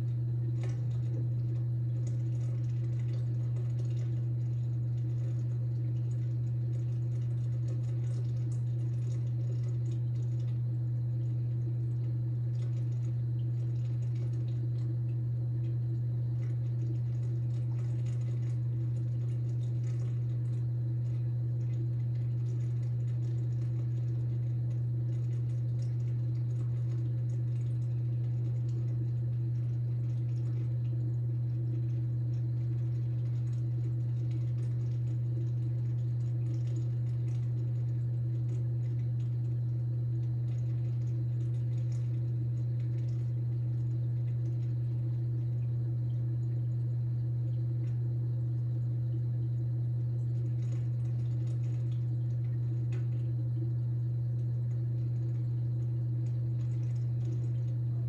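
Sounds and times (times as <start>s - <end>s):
aquarium pumps humming: 0.0s - 58.0s.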